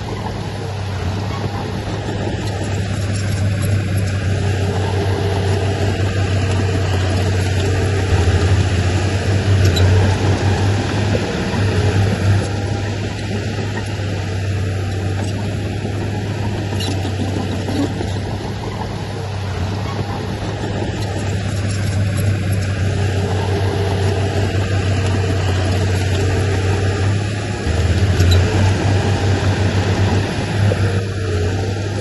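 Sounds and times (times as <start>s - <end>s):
heavy diesel engine under load: 0.0s - 32.0s.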